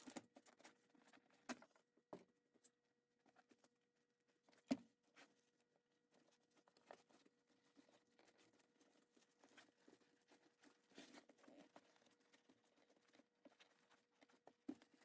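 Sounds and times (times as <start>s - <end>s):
clicks and rustles of hands: 0.0s - 3.8s, 4.4s - 15.0s.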